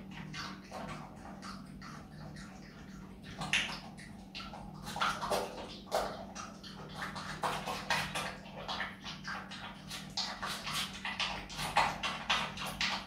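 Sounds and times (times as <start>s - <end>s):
animal chewing crunchy fruit: 0.0s - 13.0s.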